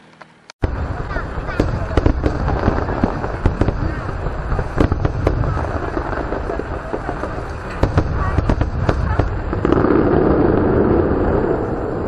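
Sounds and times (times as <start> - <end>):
fireworks cracks and pops: 0.6 - 12.0
fireworks rumble: 0.6 - 12.0.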